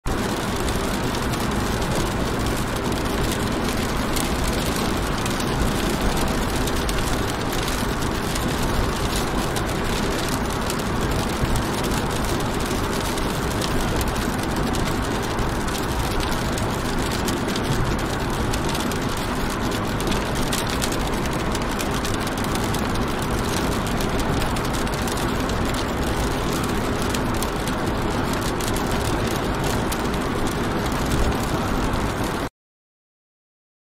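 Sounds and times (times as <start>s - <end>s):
engine and road noise: 0.0s - 32.5s
rain patter on car: 0.1s - 32.5s.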